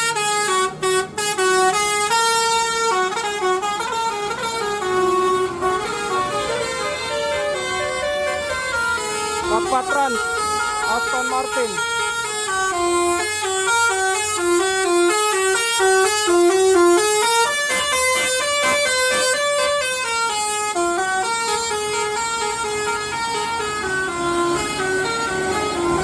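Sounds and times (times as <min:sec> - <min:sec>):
multi-tone air horn playing tune: 0:00.0 - 0:26.0.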